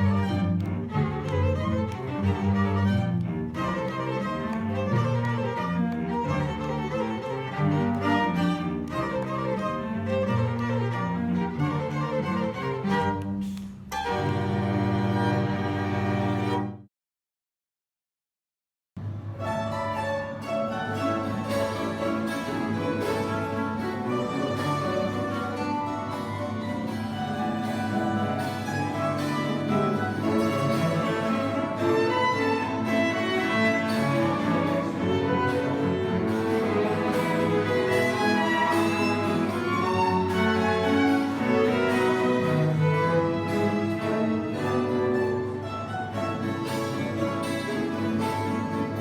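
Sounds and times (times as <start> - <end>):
cello bowing: 0.0 - 16.9, 19.5 - 49.0
violin bowing: 0.0 - 16.9, 19.4 - 49.0.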